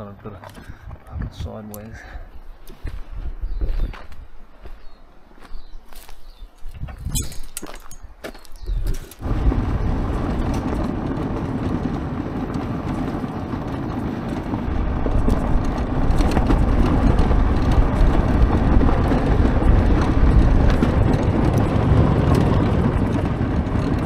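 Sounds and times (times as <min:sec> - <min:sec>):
tyres rumbling on gravel: 0:00.0 - 0:24.0
wind noise: 0:00.0 - 0:24.0.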